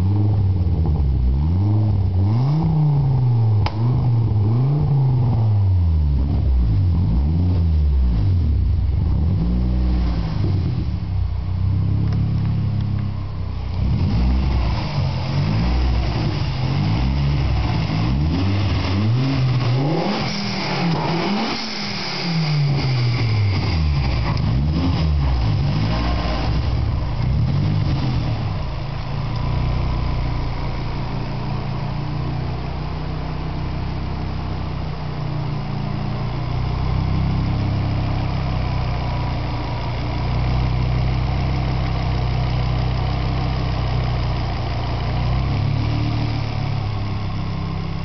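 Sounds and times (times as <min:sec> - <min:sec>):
car engine revving in blips: 0:00.0 - 0:48.0.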